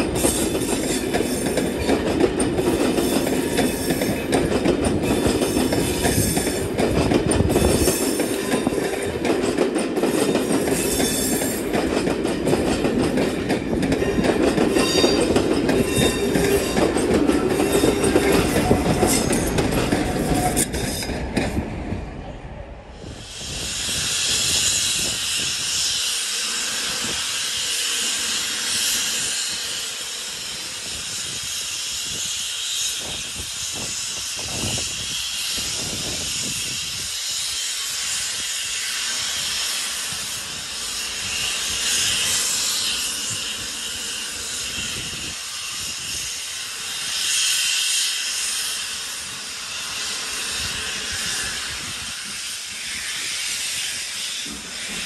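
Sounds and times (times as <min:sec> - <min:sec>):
steam hissing: 0:00.0 - 0:21.7, 0:22.6 - 0:55.0.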